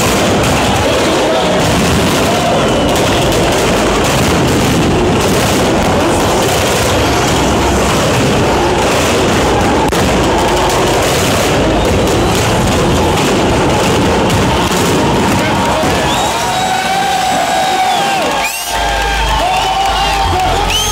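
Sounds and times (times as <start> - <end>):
car engines revving: 0.0 - 20.9.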